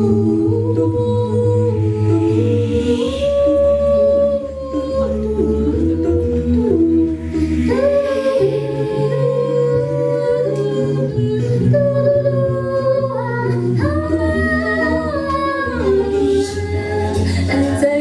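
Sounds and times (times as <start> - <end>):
a cappella choir singing chords: 0.0 - 18.0.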